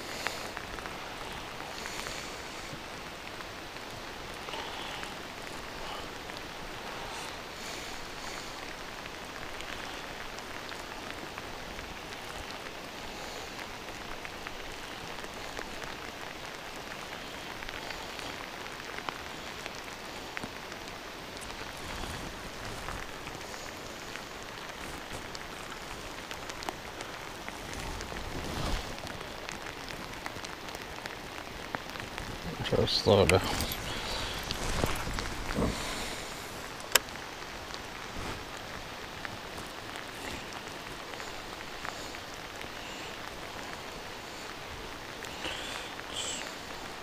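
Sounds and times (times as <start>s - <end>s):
rain falling on water: 0.0s - 47.0s
raindrop ticks: 0.1s - 47.0s.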